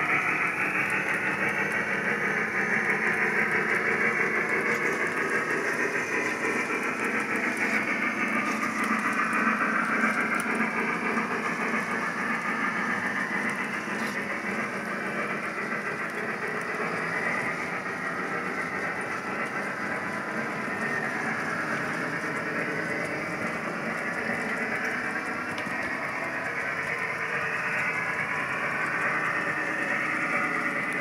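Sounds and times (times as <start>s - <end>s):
model train running on track: 0.0s - 31.0s.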